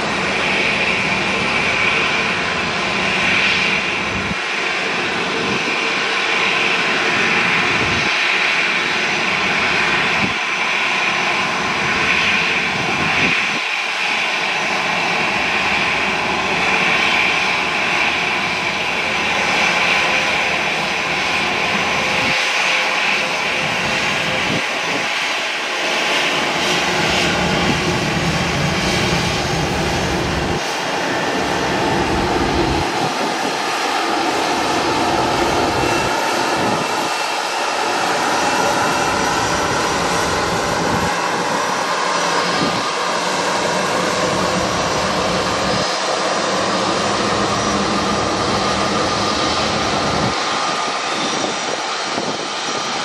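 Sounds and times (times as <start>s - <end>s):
jet engines roaring with whine: 0.0s - 53.0s.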